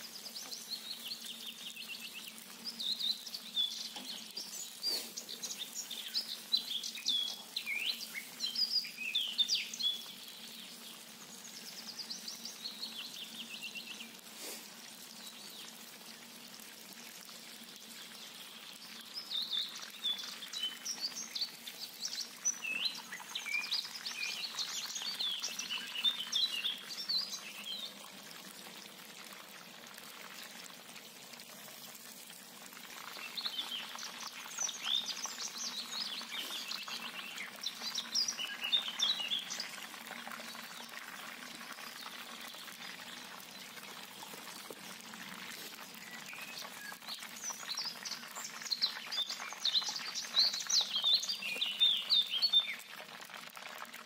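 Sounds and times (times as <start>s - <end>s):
chicken wings sizzling in oil: 0.0s - 54.0s
oil crackling and popping: 0.0s - 54.0s.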